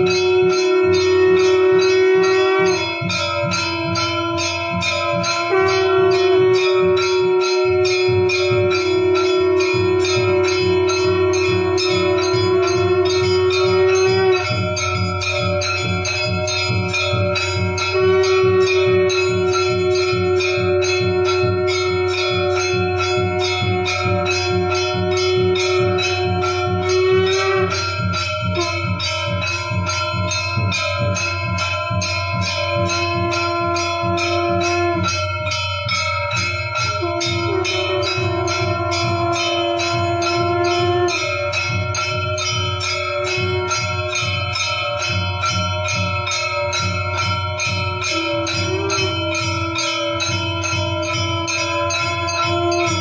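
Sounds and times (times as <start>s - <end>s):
long held tones: 0.0s - 53.0s
temple bells struck fast: 0.0s - 53.0s.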